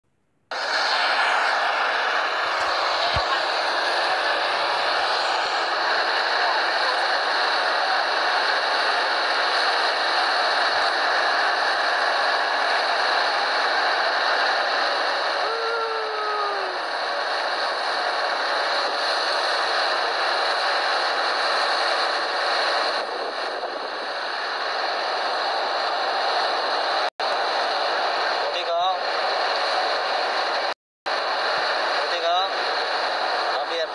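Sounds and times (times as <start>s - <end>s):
boat engine and water rushing: 0.5s - 33.9s.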